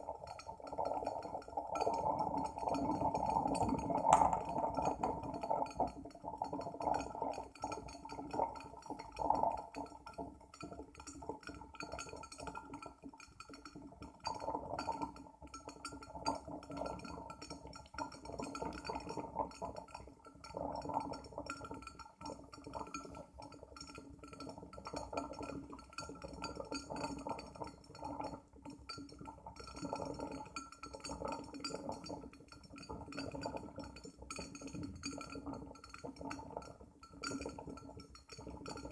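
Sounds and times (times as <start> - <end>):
coffee maker bubbling and gurgling: 0.0 - 38.9.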